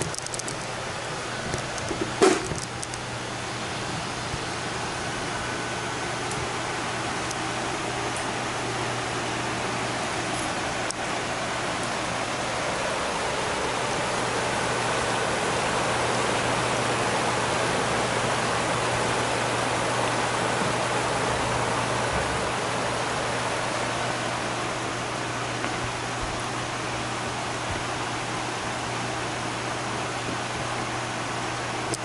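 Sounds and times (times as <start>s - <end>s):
liquid nitrogen boiling hiss: 0.0s - 32.0s.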